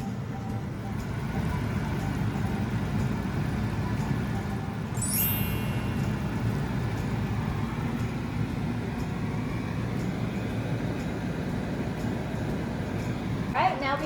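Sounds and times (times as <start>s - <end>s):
air fryer whirring: 0.0s - 14.0s.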